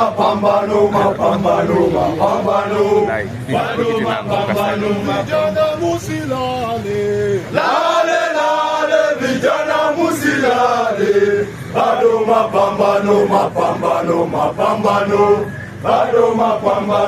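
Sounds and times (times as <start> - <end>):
group of men chanting: 0.0 - 17.0.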